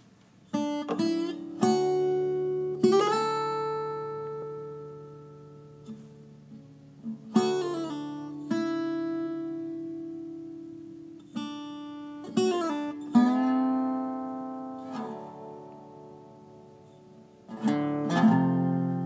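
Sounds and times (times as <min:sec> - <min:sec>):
slide acoustic guitar blues: 0:00.4 - 0:19.0.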